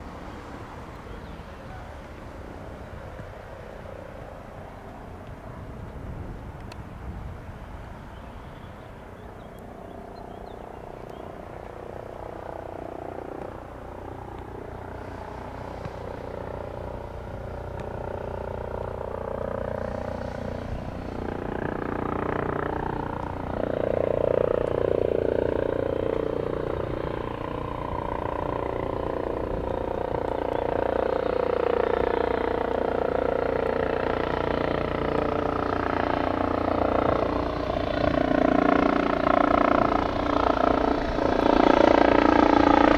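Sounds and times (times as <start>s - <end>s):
helicopter rotor and turbine whine: 0.0s - 42.9s.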